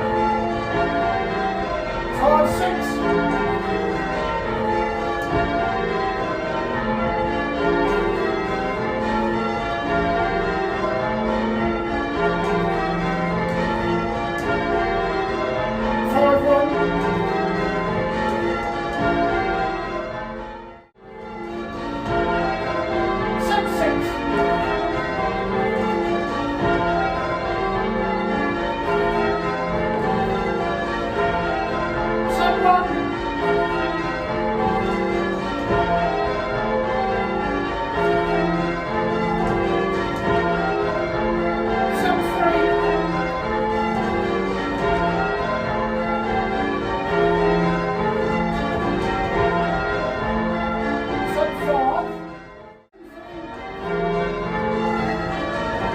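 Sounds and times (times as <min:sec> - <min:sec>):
church bells change-ringing: 0:00.0 - 0:55.9.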